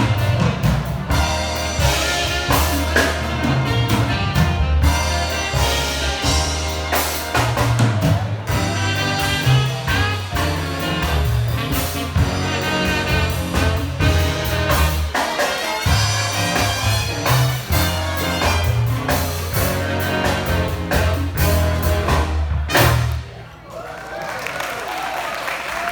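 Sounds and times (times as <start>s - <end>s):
big band jazz with brass: 0.0s - 23.6s.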